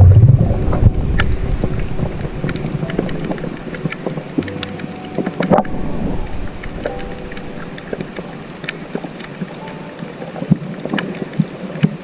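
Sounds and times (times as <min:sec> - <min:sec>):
scattered clicks and crackles: 0:00.0 - 0:12.0
underwater low rumble: 0:00.0 - 0:12.0.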